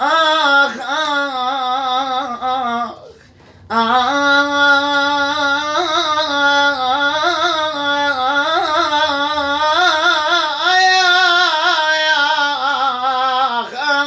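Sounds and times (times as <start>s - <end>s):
man singing wordless folk melody: 0.0s - 14.0s.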